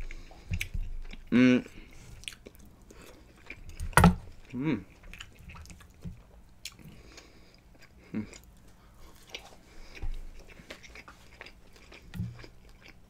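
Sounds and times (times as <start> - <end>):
person chewing fries: 0.0 - 13.0.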